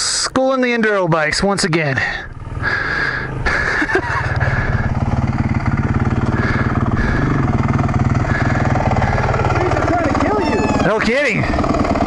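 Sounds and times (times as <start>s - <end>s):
motorcycle engine idling: 2.0s - 12.0s.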